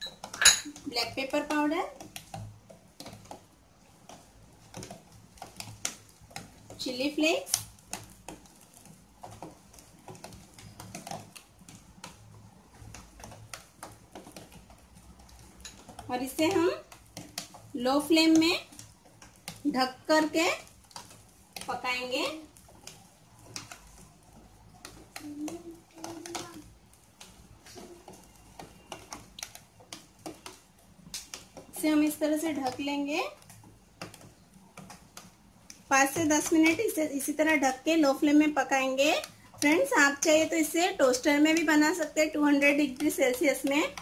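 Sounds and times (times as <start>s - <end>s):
bread toasting crackling ticks: 0.0s - 44.0s.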